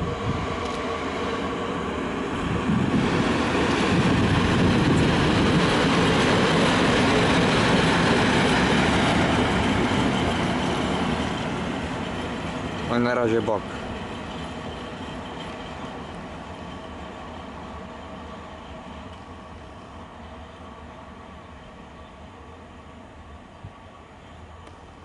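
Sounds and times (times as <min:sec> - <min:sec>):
train wheels on rails: 0:00.0 - 0:22.4
electric locomotive passing: 0:00.0 - 0:25.0.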